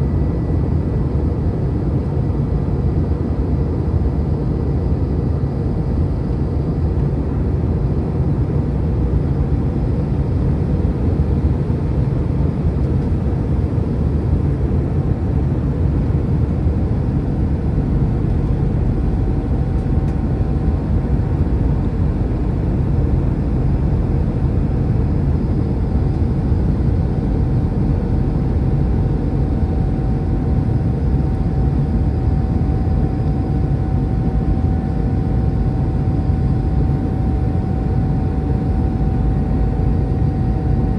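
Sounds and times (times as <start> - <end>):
faint steady whine: 0.0 - 40.9
jet engine rumble: 0.0 - 40.9.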